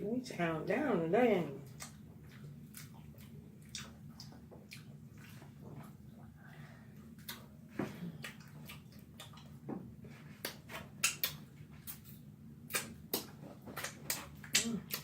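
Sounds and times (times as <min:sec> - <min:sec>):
faint low hum: 0:00.0 - 0:15.0
wet chewing and lip-smacking: 0:01.6 - 0:06.3, 0:07.1 - 0:15.0.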